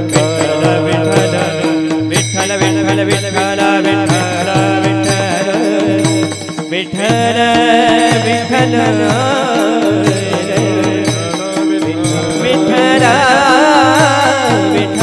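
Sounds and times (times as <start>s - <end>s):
devotional melody: 0.0s - 15.0s
quick steady drum beat: 0.0s - 15.0s.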